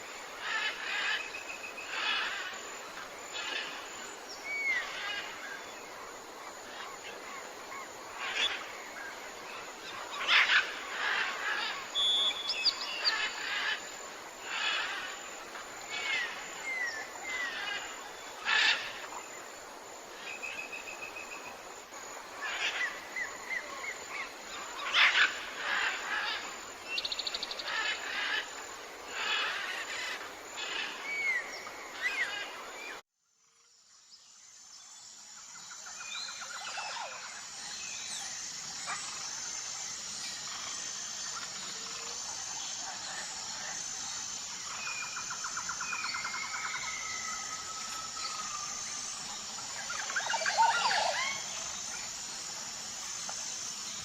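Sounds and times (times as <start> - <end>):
steady hiss: 0.0 - 33.0, 33.9 - 54.0
birds chirping and trilling: 0.4 - 19.4, 20.2 - 33.0, 35.6 - 54.0.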